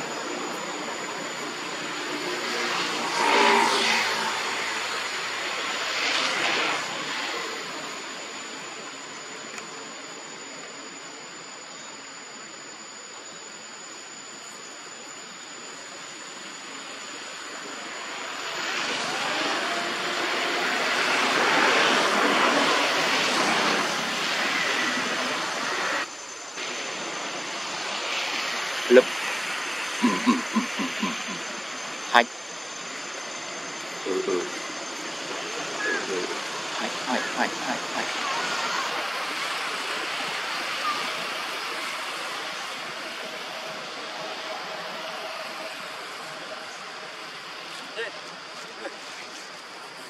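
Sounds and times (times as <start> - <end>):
distant engine noise: 0.0 - 50.0
faint high-pitched whine: 0.0 - 50.0.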